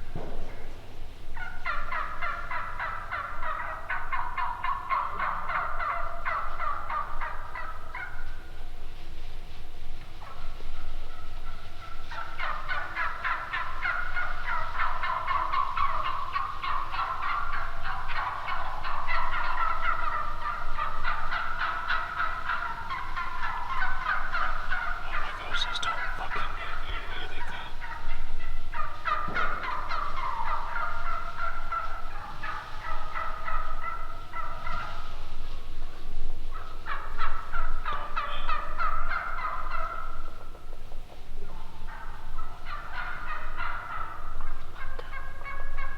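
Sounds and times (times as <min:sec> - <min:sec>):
turkeys gobbling: 0:01.3 - 0:45.9.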